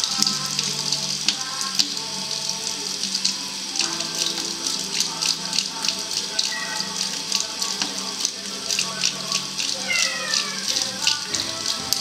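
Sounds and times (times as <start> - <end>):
background music: 0.0 - 12.0
tap water running into sink: 0.0 - 12.0.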